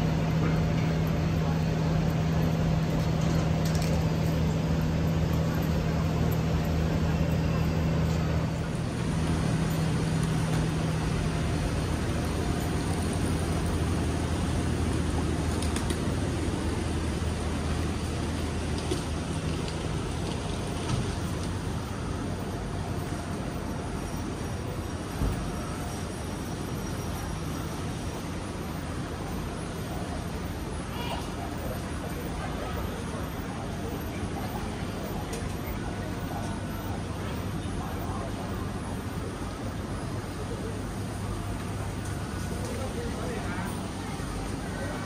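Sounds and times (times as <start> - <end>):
low mechanical hum: 0.0 - 45.0
traffic noise: 0.0 - 45.0.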